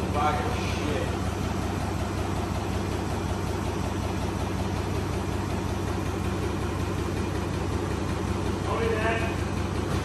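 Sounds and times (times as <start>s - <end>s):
lifting machine engine idling: 0.0s - 10.0s.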